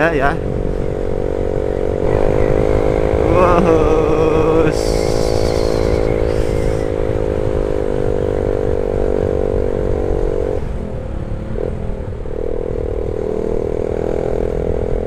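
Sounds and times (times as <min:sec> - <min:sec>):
heavy wind: 0:00.0 - 0:15.0
motorcycle engine running: 0:00.0 - 0:15.0
road rumble: 0:00.0 - 0:15.0.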